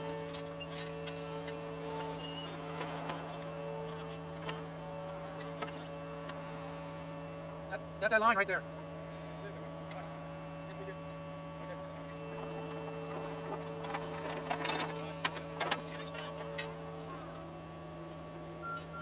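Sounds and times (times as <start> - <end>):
hydraulic whine: 0.0 - 19.0.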